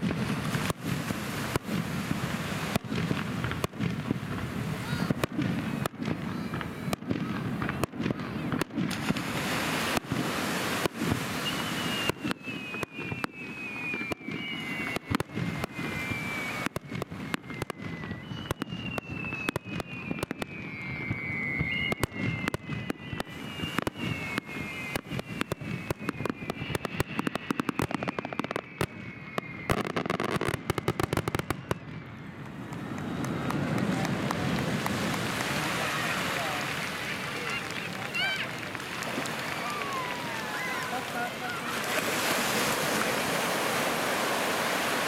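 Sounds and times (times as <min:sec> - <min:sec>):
firework bangs: 0:00.0 - 0:45.0
firework crackling: 0:00.0 - 0:45.0
firework whistles falling in pitch: 0:00.0 - 0:45.0.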